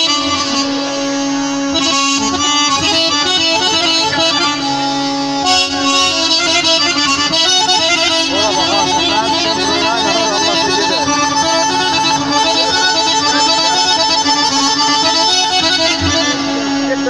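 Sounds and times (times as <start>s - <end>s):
live band instrumental music: 0.0s - 17.0s.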